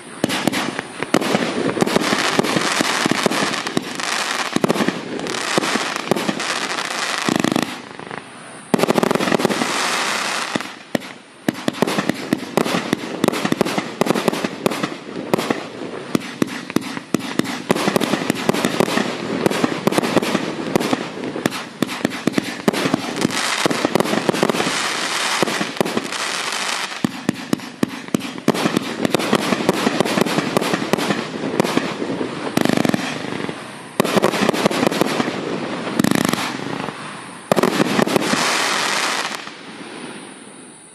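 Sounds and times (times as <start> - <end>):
fireworks bangs and bursts: 0.0 - 40.2.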